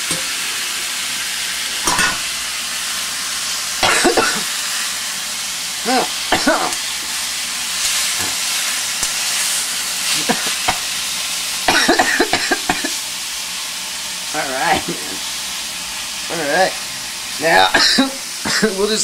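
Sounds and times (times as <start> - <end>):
steak sizzling in a frying pan: 0.0 - 19.0.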